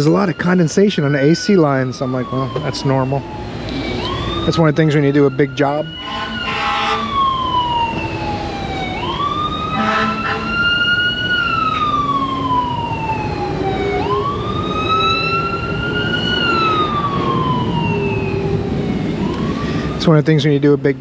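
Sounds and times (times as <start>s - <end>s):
siren wailing: 0.0s - 20.2s.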